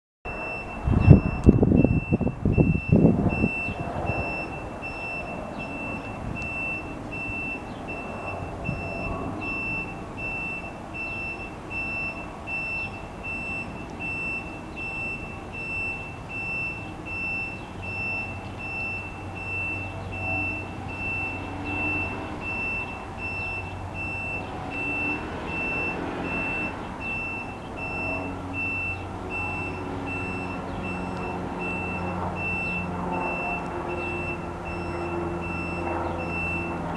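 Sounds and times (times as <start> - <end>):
high-pitched electronic beep: 0.3 - 36.8
low gusts of noise: 0.3 - 36.9
outdoor background noise: 0.3 - 36.9.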